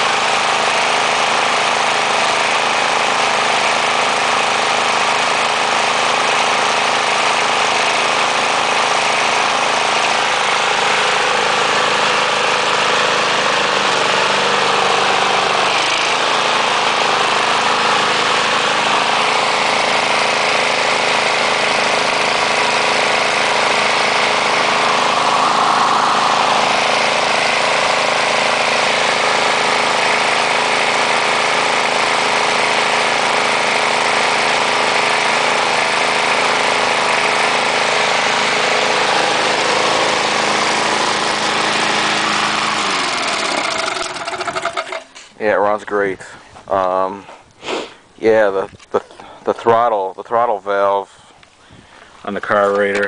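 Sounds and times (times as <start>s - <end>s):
push mower engine running: 0.0s - 53.0s.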